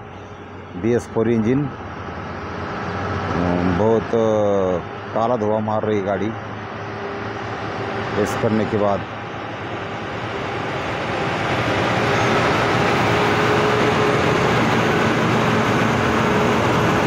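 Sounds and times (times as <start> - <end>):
truck diesel engine pulling hard: 0.0 - 17.0.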